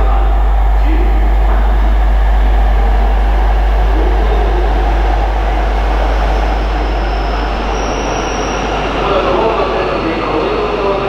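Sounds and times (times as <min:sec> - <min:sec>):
thin high whine: 0:00.0 - 0:11.0
train rushing rumble: 0:00.0 - 0:11.0.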